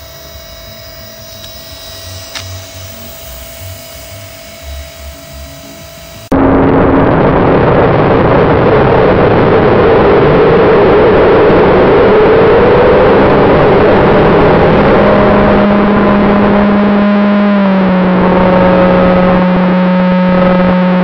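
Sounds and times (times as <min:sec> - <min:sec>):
electric motors and propellers whirring: 0:00.0 - 0:21.0.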